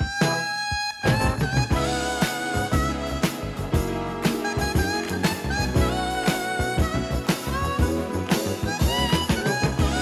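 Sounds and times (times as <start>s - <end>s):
song with drums and beat: 0.0s - 10.0s.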